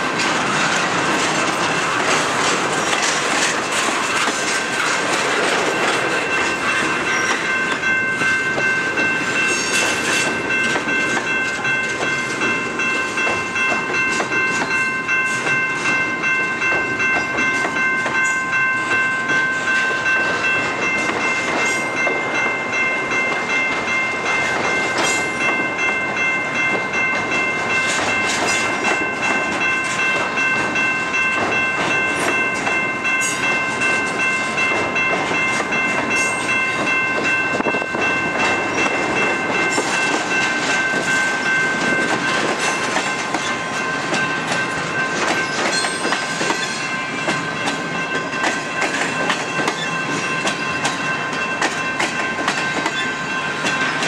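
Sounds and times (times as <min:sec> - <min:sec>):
freight train wheels clicking: 0:00.0 - 0:54.0.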